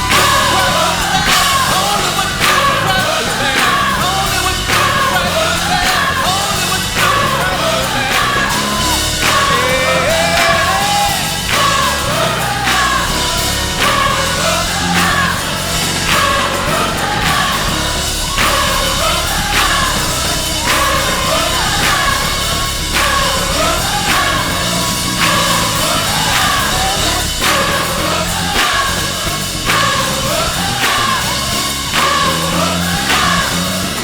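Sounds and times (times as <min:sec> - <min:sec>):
band playing a steady beat: 0:00.0 - 0:34.0
gospel choir singing: 0:00.0 - 0:34.0.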